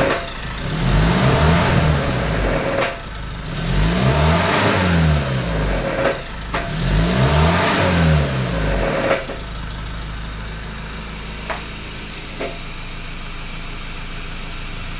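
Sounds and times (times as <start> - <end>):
diesel engine revving and idling: 0.0 - 14.9.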